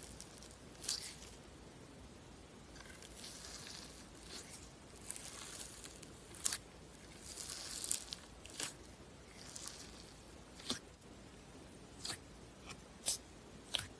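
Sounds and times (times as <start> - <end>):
slime squishing with wet pops: 0.0 - 1.4, 2.8 - 11.0, 12.0 - 13.9.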